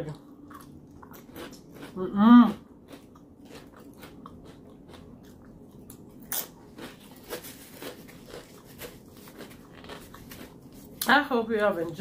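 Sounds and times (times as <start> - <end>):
chewing crunchy chip: 0.5 - 11.1.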